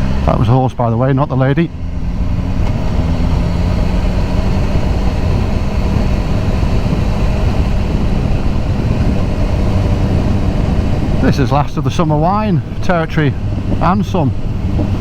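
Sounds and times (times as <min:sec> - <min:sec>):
motorcycle engine running steadily: 0:00.0 - 0:15.0.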